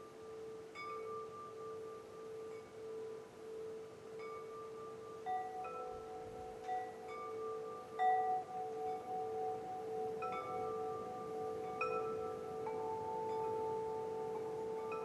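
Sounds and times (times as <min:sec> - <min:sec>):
low sustained tone: 0:00.0 - 0:15.0
wind chimes ringing: 0:00.0 - 0:15.0.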